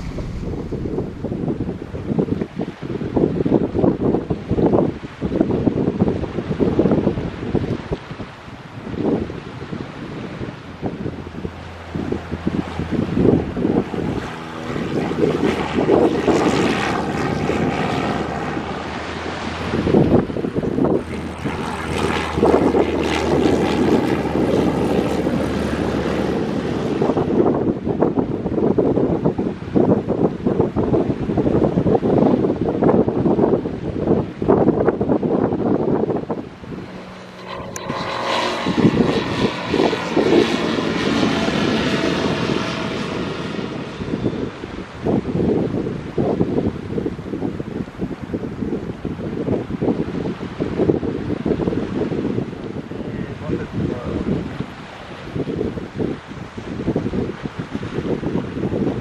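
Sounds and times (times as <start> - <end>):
light plane engine droning: 0.0 - 59.0
wind buffeting microphone: 0.0 - 59.0.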